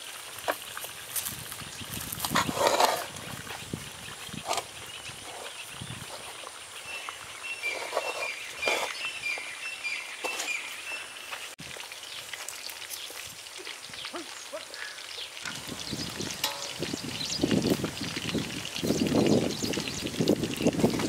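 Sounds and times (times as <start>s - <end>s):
birds chirping: 2.4s - 21.0s.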